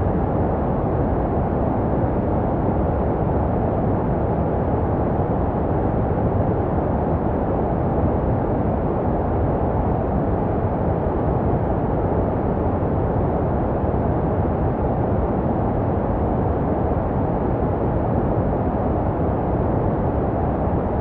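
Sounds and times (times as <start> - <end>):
muffled white noise hiss: 0.0 - 21.0.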